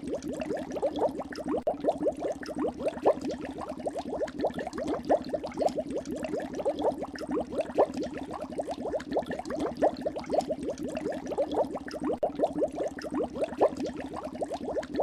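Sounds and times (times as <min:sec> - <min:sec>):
gas bubbles in water: 0:00.0 - 0:15.0.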